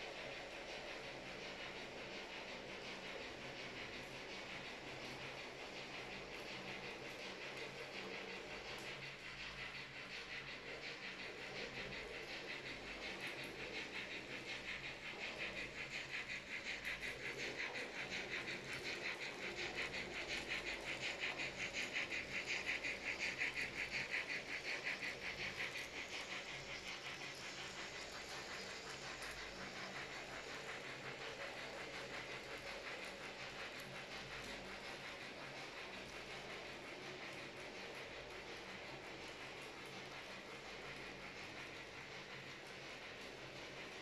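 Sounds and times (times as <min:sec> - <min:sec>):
model train motors whirring: 0:00.0 - 0:44.0.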